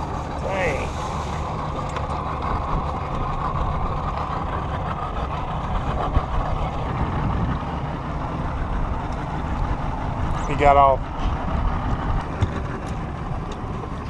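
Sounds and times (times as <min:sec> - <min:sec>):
outboard motor idling: 0:00.0 - 0:14.0.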